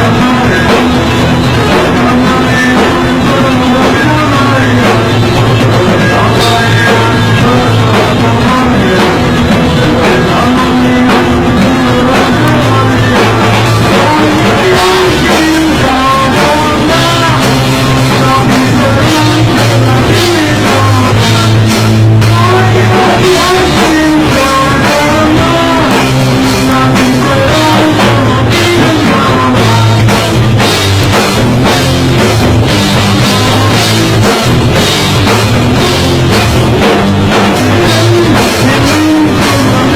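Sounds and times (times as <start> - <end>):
person singing: 0.0 - 39.9
rock band playing loudly: 0.0 - 39.9.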